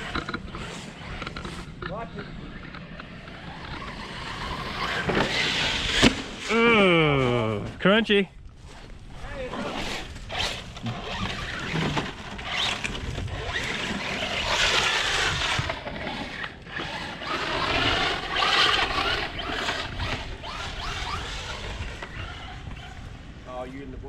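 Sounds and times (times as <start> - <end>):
rc truck motors whining: 0.0 - 7.3, 9.5 - 23.4
tyres churning dirt: 0.0 - 24.0.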